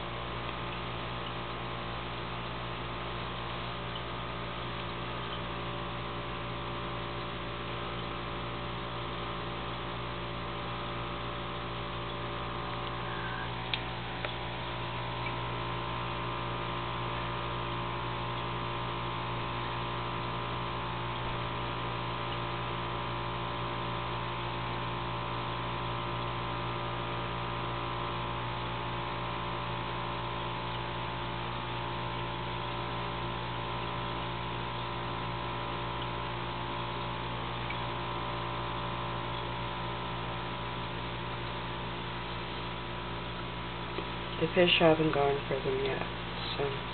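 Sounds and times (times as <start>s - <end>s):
aquarium equipment humming: 0.0s - 46.9s.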